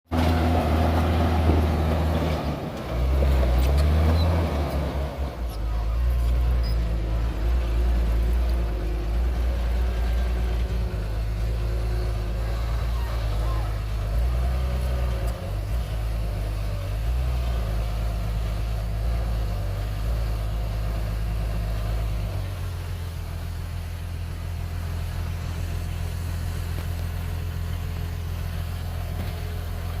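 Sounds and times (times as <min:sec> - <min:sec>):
bulldozer diesel engine: 0:00.0 - 0:30.0.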